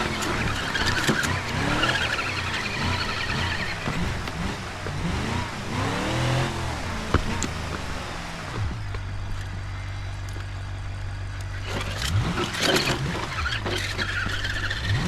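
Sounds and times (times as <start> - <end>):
simulated engine idling and revving: 0.0 - 15.0.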